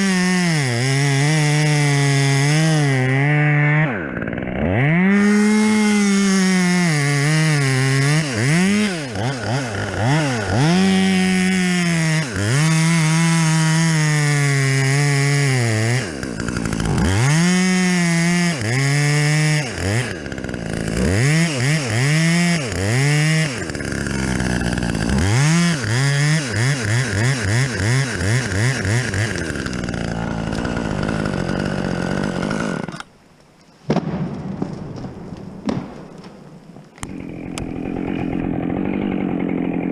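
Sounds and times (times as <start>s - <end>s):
chainsaw revving: 0.0s - 33.1s, 37.0s - 39.9s.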